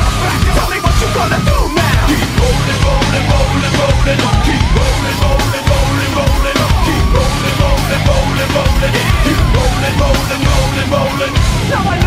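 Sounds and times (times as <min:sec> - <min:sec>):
heavy rock music: 0:00.0 - 0:12.0.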